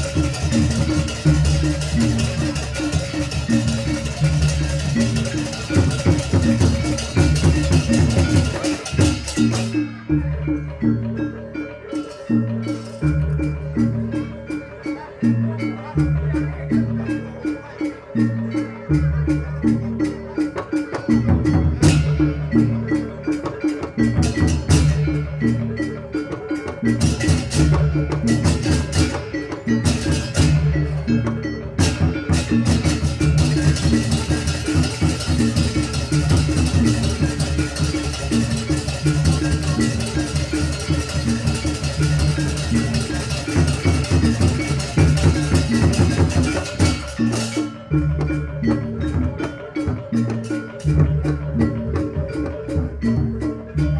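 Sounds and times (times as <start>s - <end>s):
gamelan drums gongs and metallophones: 0.0s - 53.9s.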